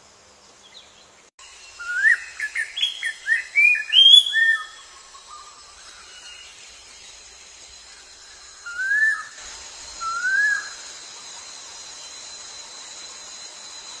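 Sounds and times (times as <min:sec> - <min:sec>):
steady high hiss: 0:00.0 - 0:14.0
bird whistled notes: 0:01.6 - 0:13.8.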